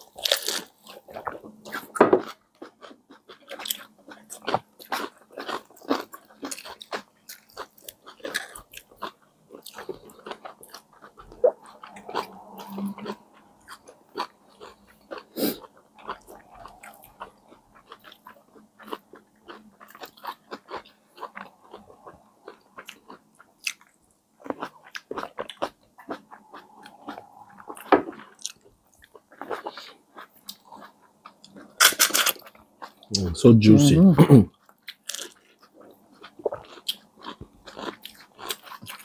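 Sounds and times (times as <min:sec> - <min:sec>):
people chewing bread: 0:00.0 - 0:39.0.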